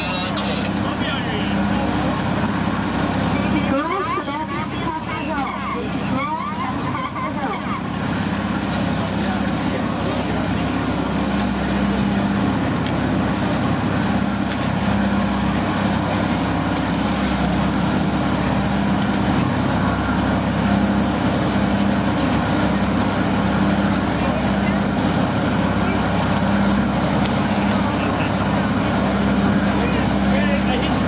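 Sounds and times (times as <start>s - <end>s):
machine droning: 0.0s - 31.0s.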